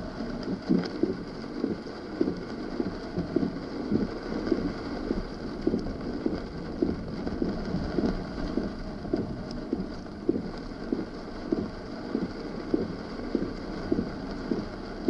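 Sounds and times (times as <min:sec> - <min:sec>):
rain: 0:00.0 - 0:15.0.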